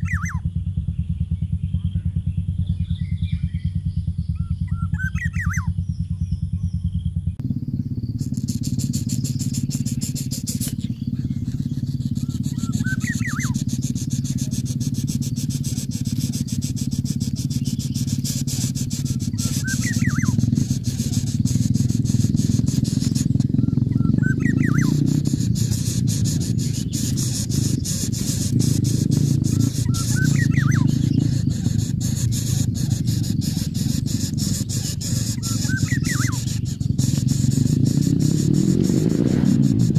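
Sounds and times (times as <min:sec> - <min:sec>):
bird chirping: 0:00.0 - 0:39.9
steady low rumble: 0:00.0 - 0:39.9.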